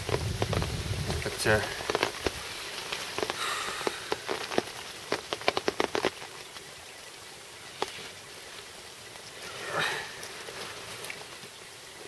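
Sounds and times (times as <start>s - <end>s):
rain falling: 0.0s - 12.0s
raindrops tapping near microphone: 0.0s - 12.0s.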